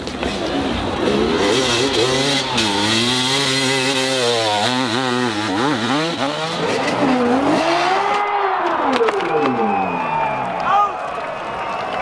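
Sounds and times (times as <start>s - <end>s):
dirt bike engine revving: 0.2s - 10.0s.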